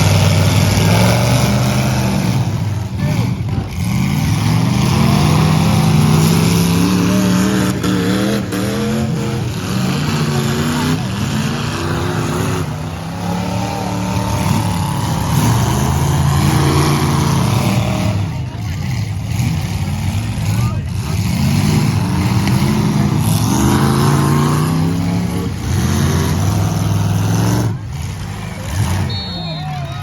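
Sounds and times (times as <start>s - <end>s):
car engines revving hard: 0.0s - 30.0s.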